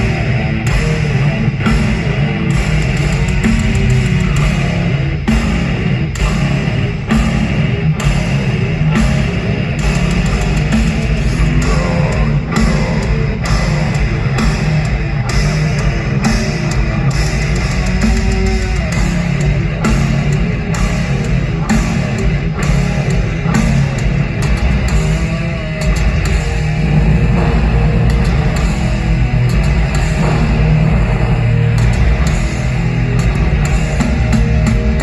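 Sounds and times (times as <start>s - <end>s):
heavy metal band playing live: 0.0s - 35.0s
wavering lead guitar: 0.0s - 35.0s.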